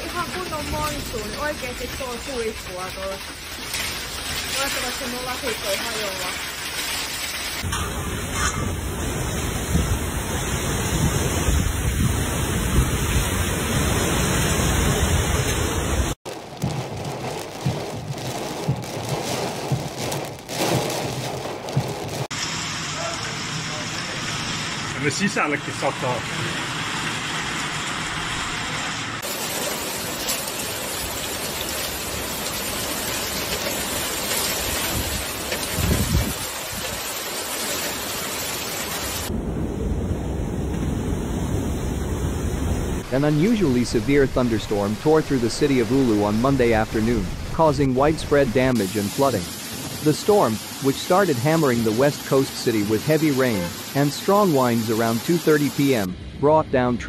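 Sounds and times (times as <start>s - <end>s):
heavy rain: 0.0s - 56.6s
wind gusts: 7.4s - 57.0s.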